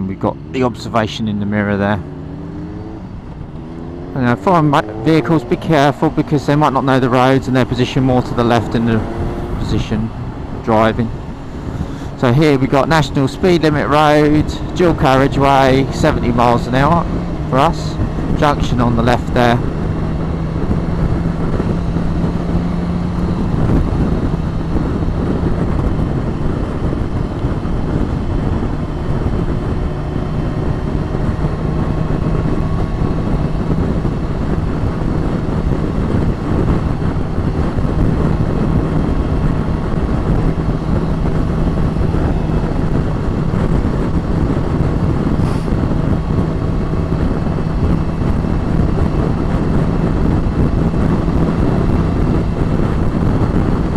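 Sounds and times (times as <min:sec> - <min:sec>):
motorcycle engine cruising: 0:00.0 - 0:53.9
wind rushing over microphone: 0:00.0 - 0:53.9.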